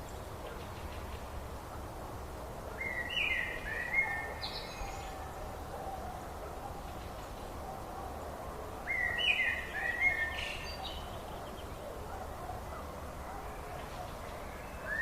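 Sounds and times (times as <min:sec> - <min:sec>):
wild birds singing: 0:02.7 - 0:15.0.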